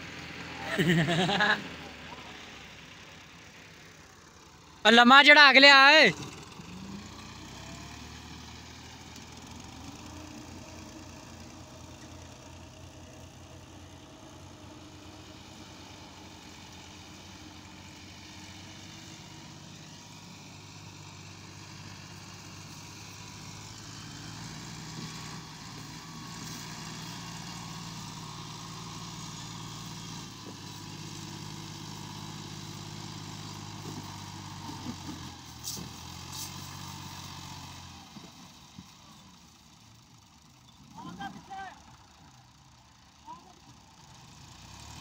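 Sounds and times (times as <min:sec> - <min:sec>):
diesel tractor engine running: 0:00.0 - 0:45.0.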